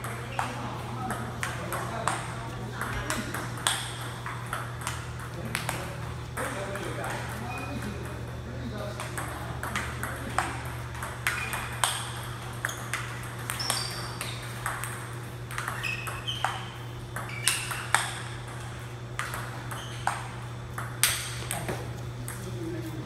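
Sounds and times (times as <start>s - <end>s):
table tennis balls clicking: 0.0s - 22.5s.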